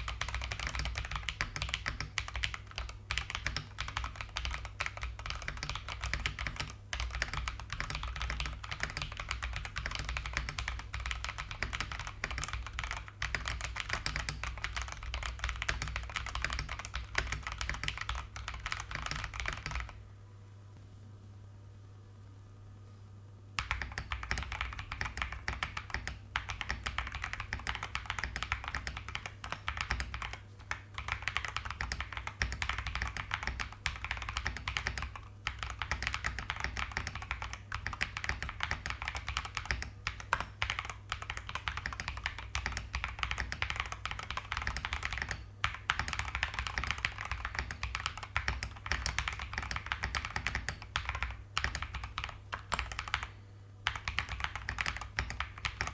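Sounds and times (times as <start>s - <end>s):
typing on mechanical keyboard: 0.0s - 20.0s, 23.6s - 55.9s.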